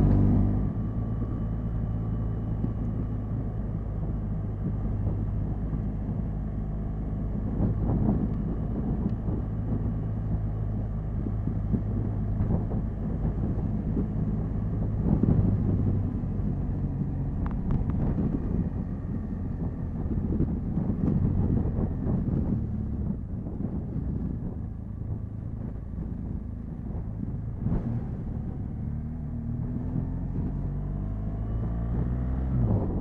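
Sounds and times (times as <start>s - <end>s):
motorcycle engine cruising: 0.0s - 33.0s
wind rumbling on microphone: 0.0s - 33.0s.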